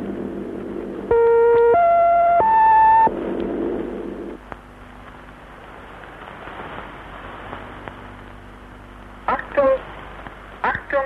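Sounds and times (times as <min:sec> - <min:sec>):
low hum: 0:00.0 - 0:11.0
radio static hiss: 0:00.0 - 0:11.0.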